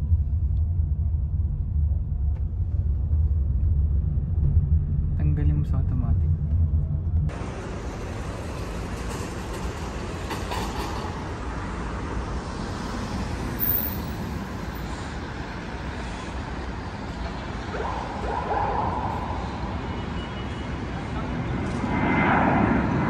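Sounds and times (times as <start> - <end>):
vehicle road and engine rumble: 0.0 - 23.0.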